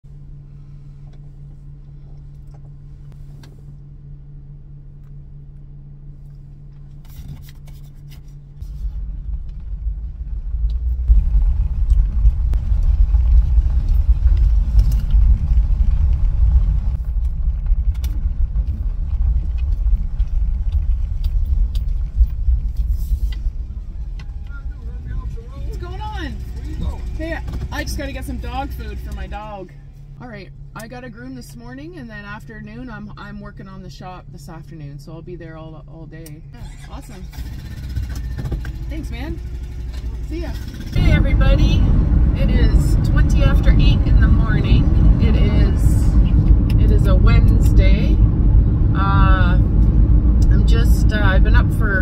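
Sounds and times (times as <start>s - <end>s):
car engine idling: 0.0s - 52.0s
engine and road noise: 0.0s - 52.0s.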